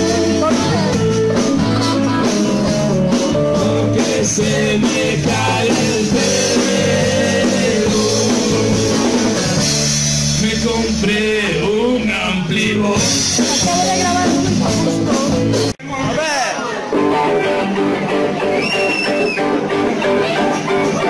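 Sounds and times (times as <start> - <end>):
drum kit: 0.0 - 16.2, 16.9 - 21.0
electric guitar: 0.0 - 21.0.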